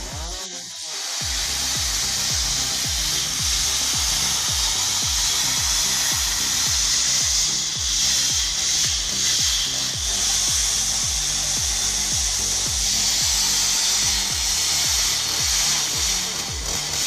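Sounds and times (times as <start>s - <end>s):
background music with thumping beat: 0.0s - 17.0s
chainsaw cutting wood: 0.0s - 17.0s.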